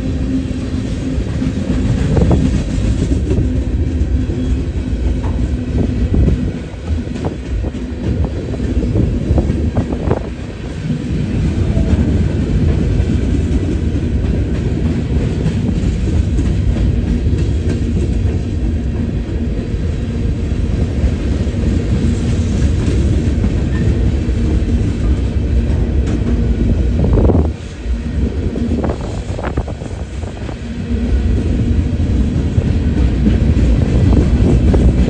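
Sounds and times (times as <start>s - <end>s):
freight train wheels clickety-clack: 0.0s - 35.0s.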